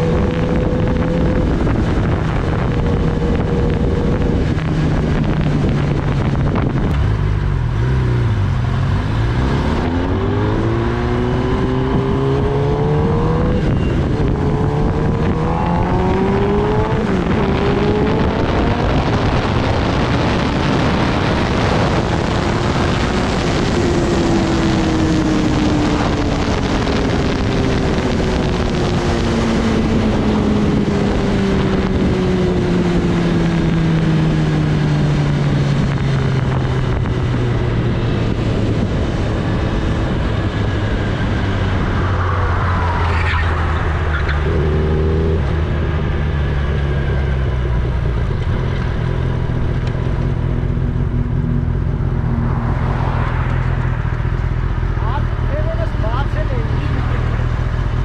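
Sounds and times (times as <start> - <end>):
motorcycle engine: 0.0 - 58.0
wind rush on microphone: 0.0 - 58.0.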